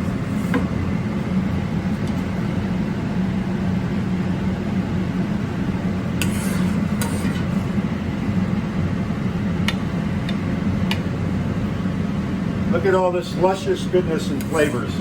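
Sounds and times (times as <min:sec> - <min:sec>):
loud kitchen hum: 0:00.0 - 0:15.0.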